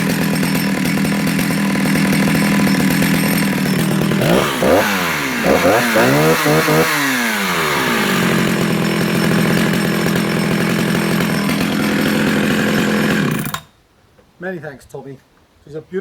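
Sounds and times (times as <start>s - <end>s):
chainsaw revving and idling: 0.0s - 13.7s.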